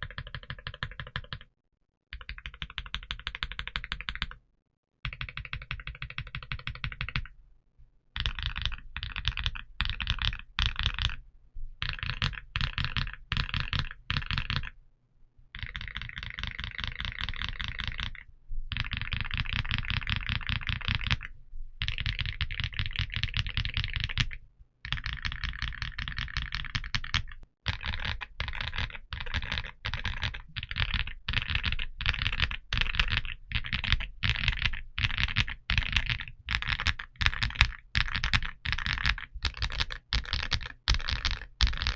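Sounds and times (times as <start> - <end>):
mechanical keyboard typing: 0.0 - 1.5, 2.2 - 4.4, 5.1 - 7.3, 8.2 - 11.2, 11.8 - 14.8, 15.6 - 41.9.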